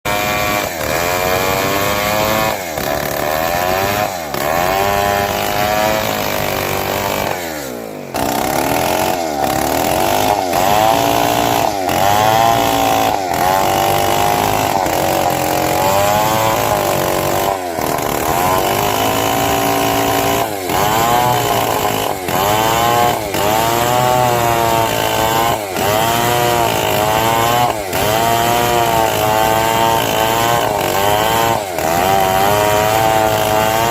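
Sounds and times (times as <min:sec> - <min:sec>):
chainsaw engine running: 0:00.1 - 0:33.9.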